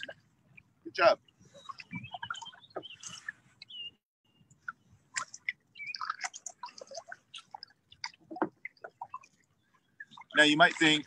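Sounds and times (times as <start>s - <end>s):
birds chirping: 0.0s - 8.0s, 8.7s - 11.0s
light water sounds: 0.0s - 11.0s.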